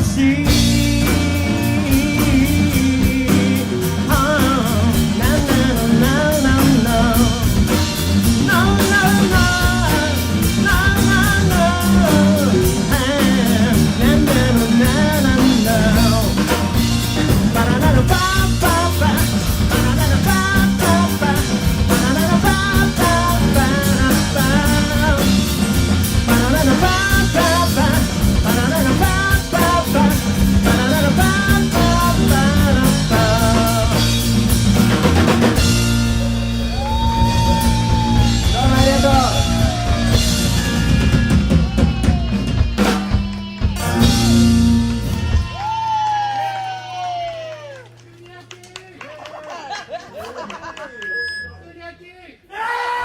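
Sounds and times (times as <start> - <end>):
bending lead guitar melody: 0.0 - 45.7
drum kit: 0.0 - 47.9
bass guitar: 0.0 - 49.2.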